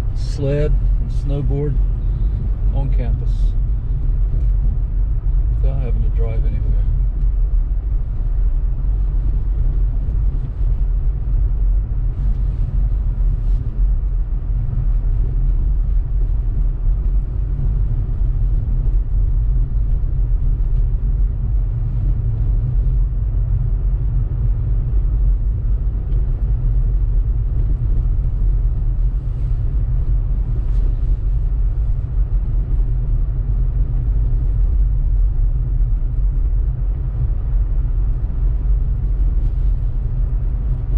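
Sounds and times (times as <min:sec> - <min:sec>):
car engine rumble: 0:00.0 - 0:40.9.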